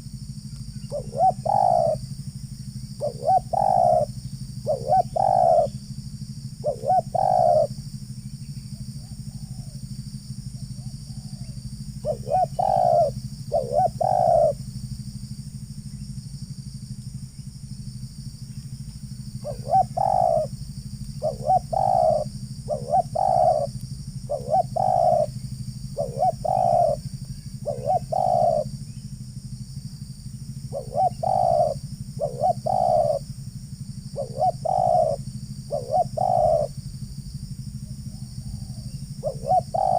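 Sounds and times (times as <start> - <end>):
doves cooing: 0.0 - 17.3, 18.5 - 29.6, 30.3 - 39.9
steady low hum: 0.0 - 39.9.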